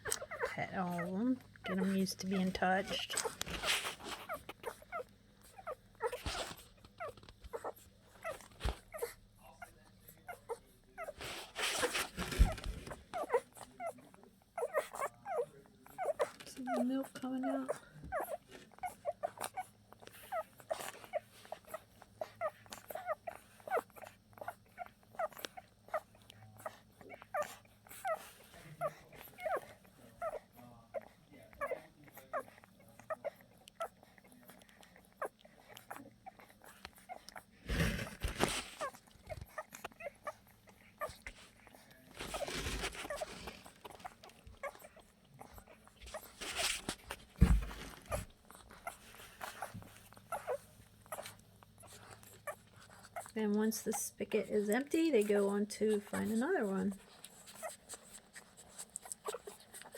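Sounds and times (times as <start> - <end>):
puppies squeaking and whimpering: 0.0 - 59.9
rustling: 0.0 - 59.9.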